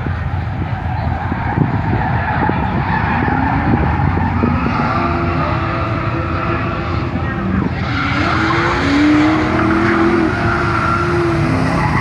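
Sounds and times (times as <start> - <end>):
car engine revving: 0.0 - 12.0
tyres skidding: 0.0 - 12.0.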